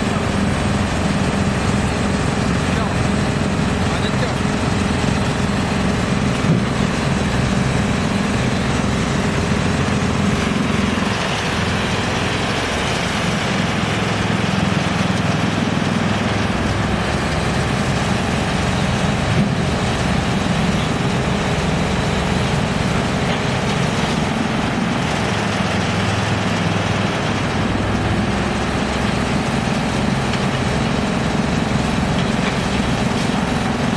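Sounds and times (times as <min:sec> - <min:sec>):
excavator diesel engine: 0:00.0 - 0:33.9
wood chipper running: 0:00.0 - 0:33.9.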